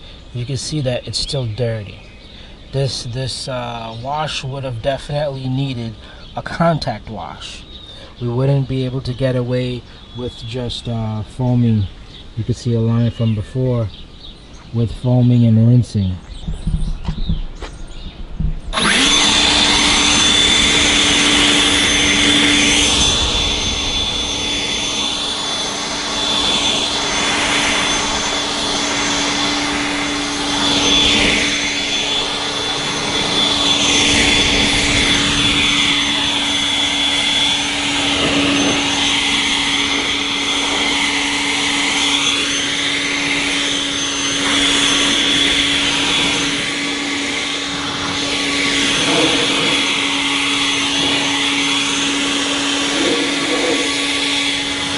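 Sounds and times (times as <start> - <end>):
leaf blower whining: 0.0 - 54.9.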